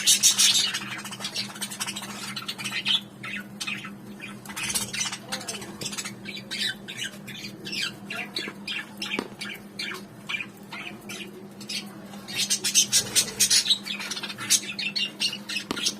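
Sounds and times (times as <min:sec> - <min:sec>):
small birds chirping and squawking: 0:00.0 - 0:15.9.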